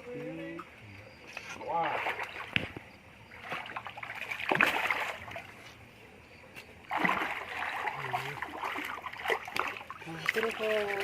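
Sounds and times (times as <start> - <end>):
water splashing and sloshing: 1.3 - 6.0, 6.6 - 11.0.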